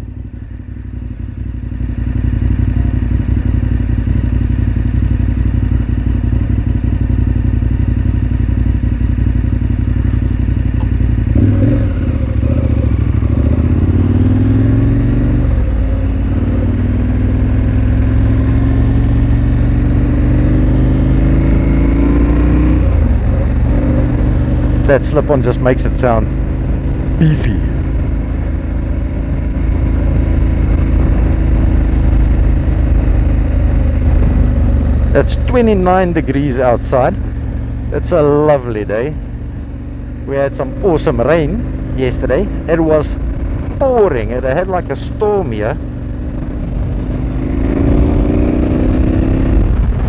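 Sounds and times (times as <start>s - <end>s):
motorcycle engine idling: 0.0s - 21.4s, 22.5s - 47.6s
motorcycle accelerating through gears: 0.1s - 50.0s.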